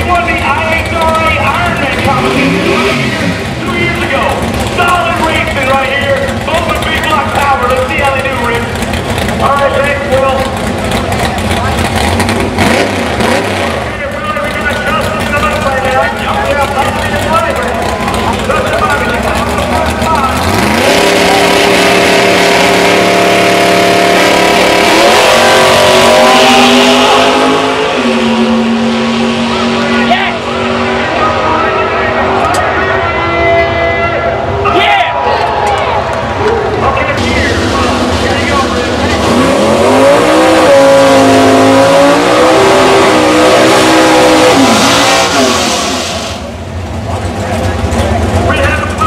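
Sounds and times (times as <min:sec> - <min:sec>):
drag car engines revving: 0:00.0 - 0:49.0.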